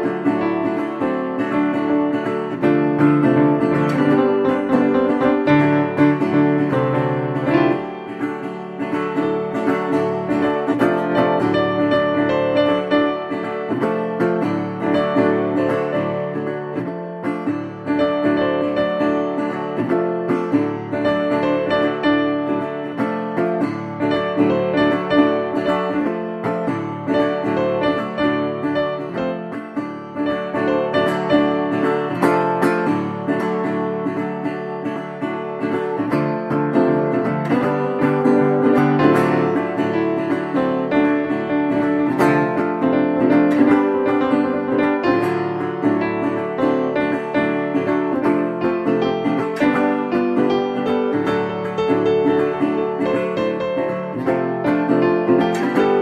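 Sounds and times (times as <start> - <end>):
plucked acoustic guitar music: 0.0 - 56.0.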